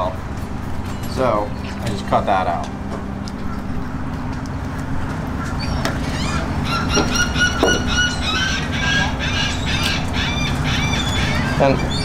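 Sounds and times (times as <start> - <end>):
birds squawking: 0.0 - 12.0
low background rumble: 0.0 - 12.0.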